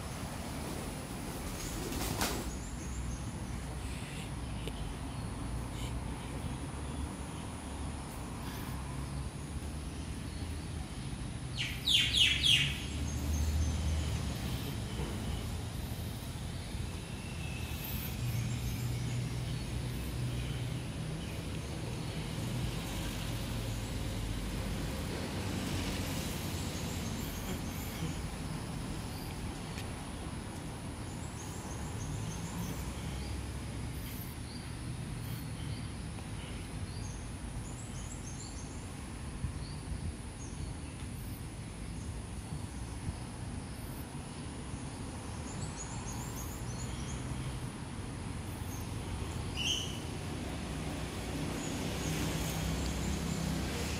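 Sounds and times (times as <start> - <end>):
small birds chirping: 1.5 - 25.0, 25.6 - 53.9.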